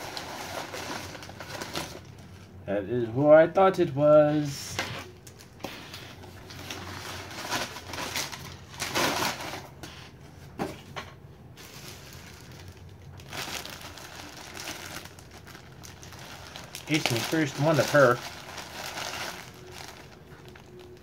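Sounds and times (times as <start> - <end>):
paper and plastic crumpling: 0.0 - 2.5, 4.4 - 10.1, 11.6 - 21.0.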